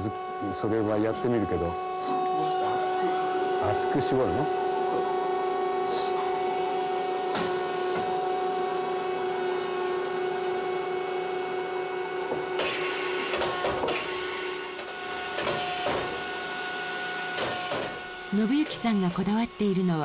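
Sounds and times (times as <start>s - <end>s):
lathe humming: 0.0s - 20.0s.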